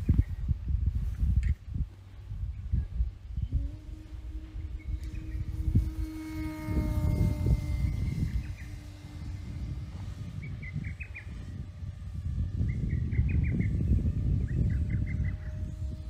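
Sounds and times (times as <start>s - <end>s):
model plane motor whine: 0.0s - 16.0s
wind rumbling on microphone: 0.0s - 16.0s.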